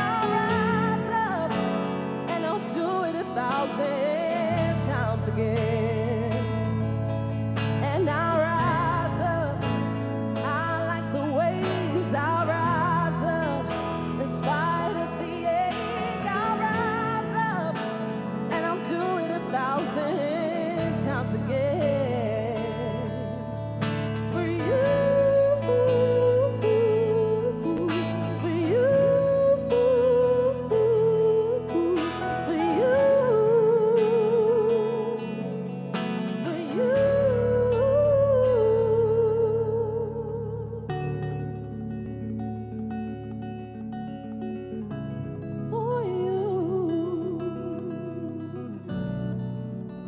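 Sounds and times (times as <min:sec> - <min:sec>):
person singing wavering notes: 0:00.0 - 0:50.0.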